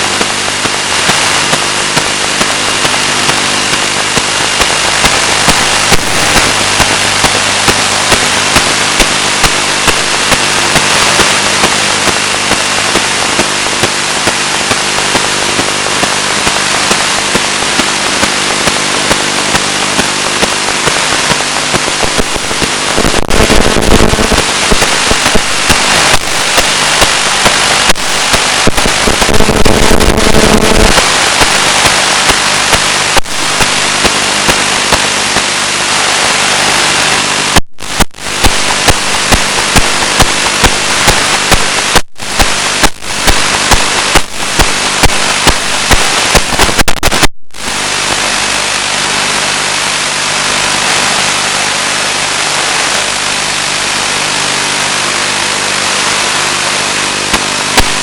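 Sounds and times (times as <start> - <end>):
crackling clicks: 0.0 - 48.9, 57.2 - 58.0
droning interference buzz: 0.0 - 58.0
static hiss: 0.0 - 58.0.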